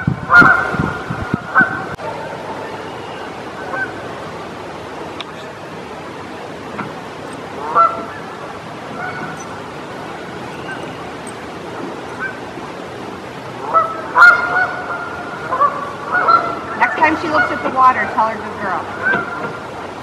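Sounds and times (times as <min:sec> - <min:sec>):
geese honking: 0:00.0 - 0:04.4, 0:05.2 - 0:19.7.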